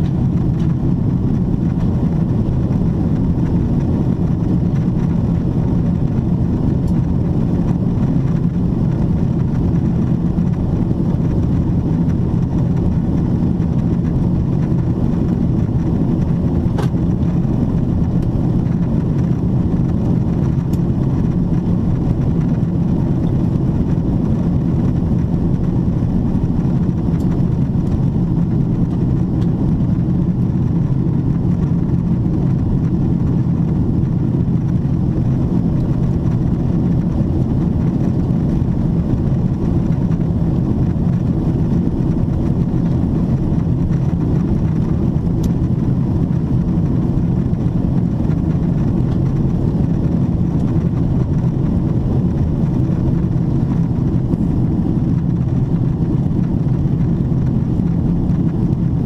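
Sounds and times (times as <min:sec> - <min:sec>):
aircraft cabin engine roar: 0:00.0 - 0:59.0.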